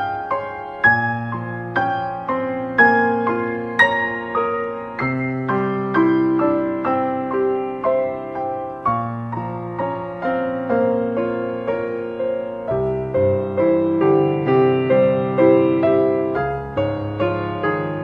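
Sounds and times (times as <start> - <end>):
deep piano bass notes: 0.0 - 18.0
piano melody: 0.0 - 18.0.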